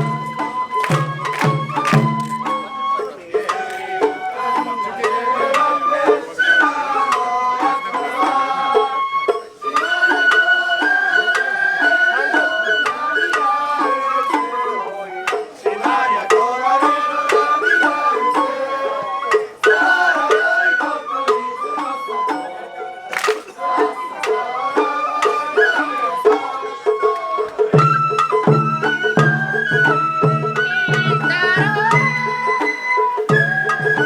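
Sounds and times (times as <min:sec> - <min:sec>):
bamboo flute melody: 0:00.0 - 0:34.0.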